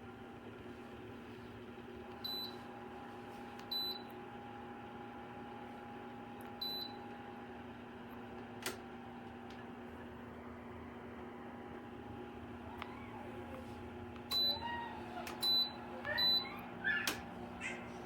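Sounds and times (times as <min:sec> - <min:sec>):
space heater fan hum: 0:00.0 - 0:18.0.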